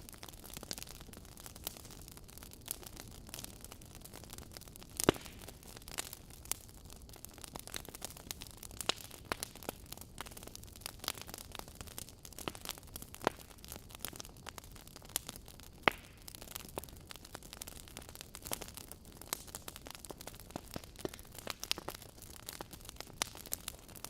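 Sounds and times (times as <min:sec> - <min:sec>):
loud fire pops: 0:00.0 - 0:24.0
wood fire crackling: 0:00.0 - 0:24.0.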